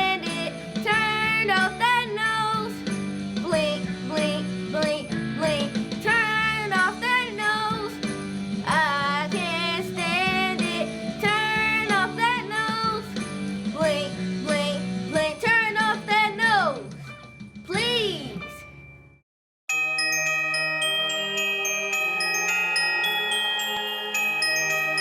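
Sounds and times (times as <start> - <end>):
instrumental accompaniment: 0.0 - 25.0.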